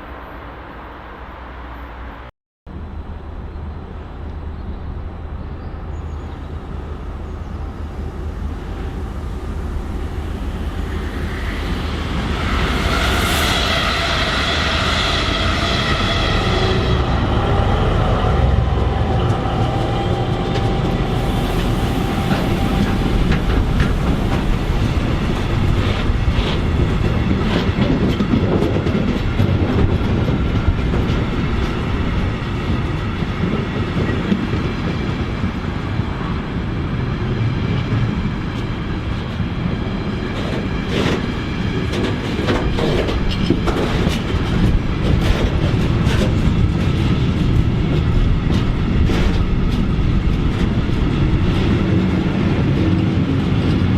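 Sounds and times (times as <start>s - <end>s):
train whine: 0.0s - 53.9s
wheels rumbling on rails: 0.0s - 53.9s
rail joint clicks: 2.7s - 36.4s, 37.3s - 53.9s.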